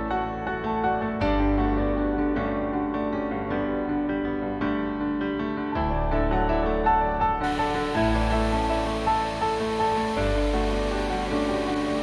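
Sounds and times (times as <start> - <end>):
gentle piano piece: 0.0 - 12.0.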